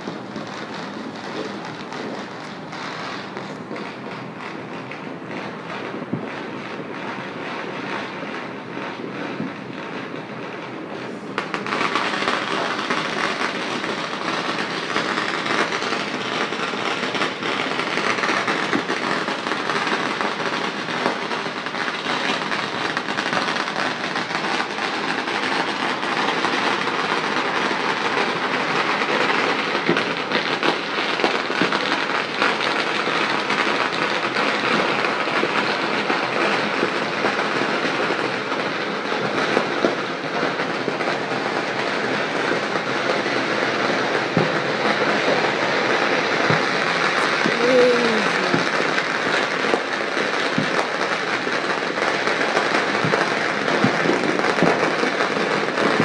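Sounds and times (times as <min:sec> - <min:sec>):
firecrackers crackling: 0:00.0 - 0:56.0.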